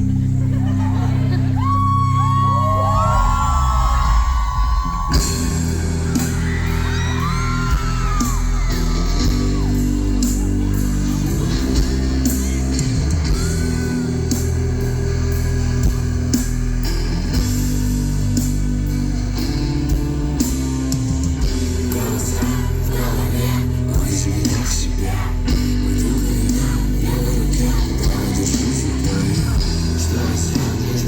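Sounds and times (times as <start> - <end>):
electric guitars: 0.0 - 31.0
drums keeping a steady beat: 3.2 - 31.0.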